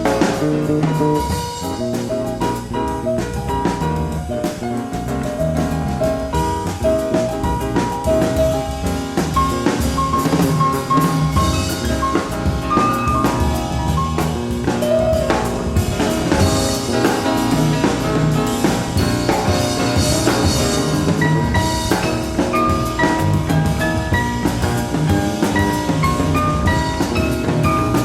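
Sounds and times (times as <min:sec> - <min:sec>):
bass: 0:00.0 - 0:28.0
drum kit playing: 0:00.0 - 0:28.0
piano lines: 0:00.0 - 0:28.0.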